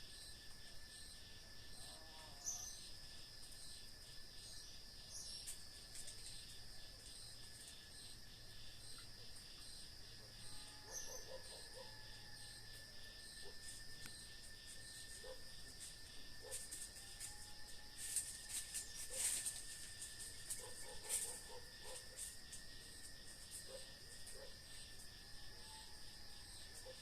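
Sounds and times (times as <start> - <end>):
crickets and insects trilling: 0.0 - 27.0
high insect chirps: 0.0 - 27.0.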